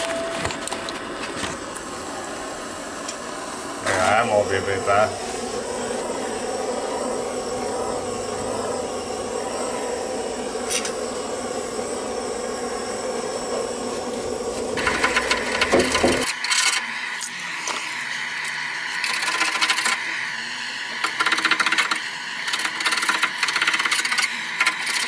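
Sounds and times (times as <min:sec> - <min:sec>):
blowtorch hissing: 0:01.6 - 0:25.0.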